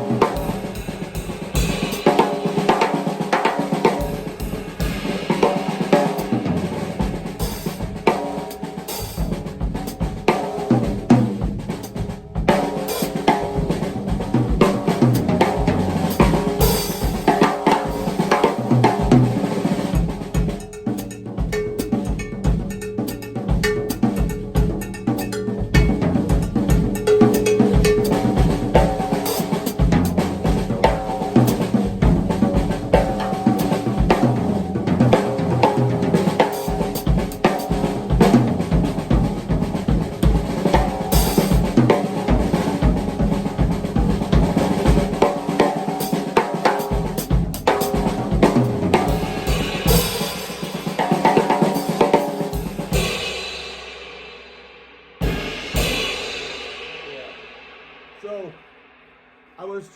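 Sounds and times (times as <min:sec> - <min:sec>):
drum kit playing: 0:00.0 - 0:58.7.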